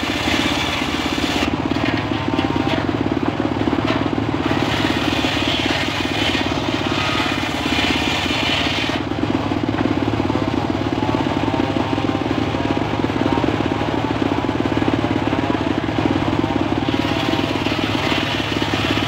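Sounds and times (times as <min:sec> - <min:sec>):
circular saw bench running: 0:00.0 - 0:19.0.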